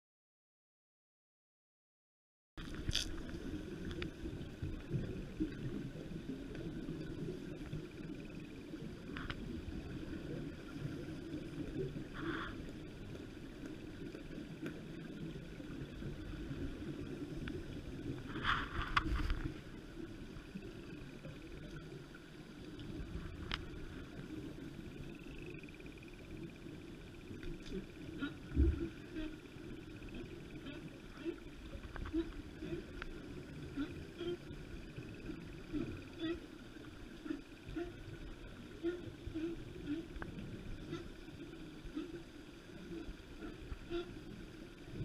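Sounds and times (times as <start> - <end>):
underwater water rush: 2.6 - 45.0.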